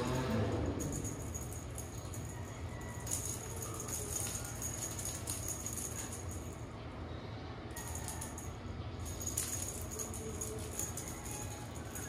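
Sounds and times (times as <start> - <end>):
cat toy jingling rattle: 0.0 - 6.7, 7.7 - 12.0.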